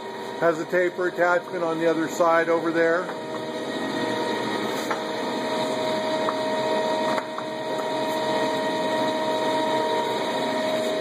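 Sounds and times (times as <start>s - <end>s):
lathe whining: 0.0s - 11.0s.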